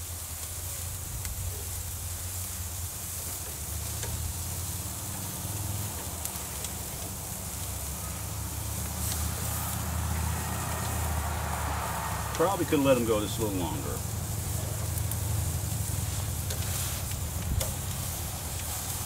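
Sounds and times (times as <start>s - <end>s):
vegetables sizzling on grill: 0.0s - 19.0s.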